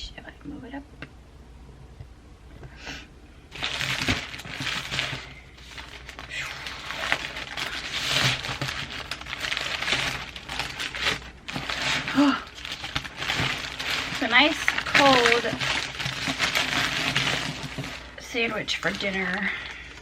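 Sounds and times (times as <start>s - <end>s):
paper wrapper crinkling: 3.5s - 20.0s.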